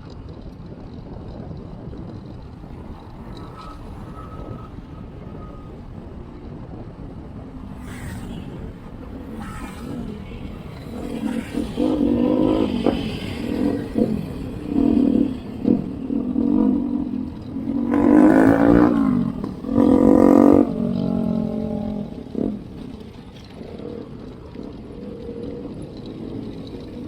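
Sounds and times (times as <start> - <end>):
vehicle engines passing: 0.0 - 27.0
wind on microphone: 0.0 - 27.0.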